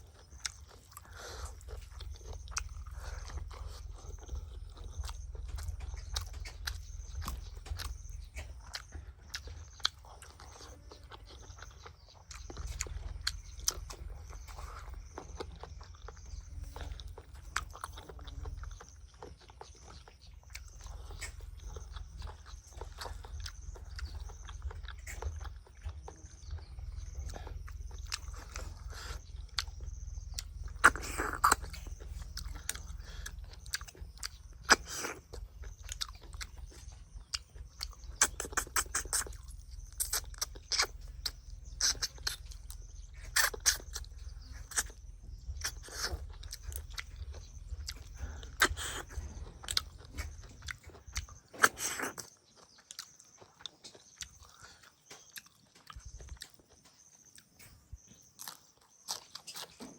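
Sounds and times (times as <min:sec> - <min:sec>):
steady low hum: 0:00.0 - 0:59.8
person chewing and crunching: 0:00.0 - 0:59.9.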